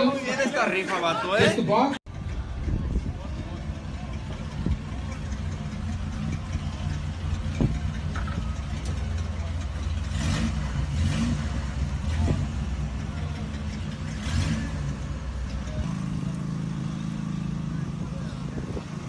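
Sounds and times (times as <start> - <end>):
pickup truck engine idling: 2.1 - 19.0.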